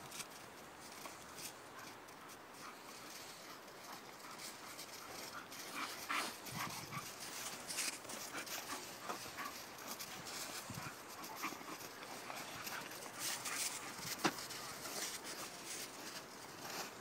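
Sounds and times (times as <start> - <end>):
puppies scuffling in snow: 0.0 - 17.0.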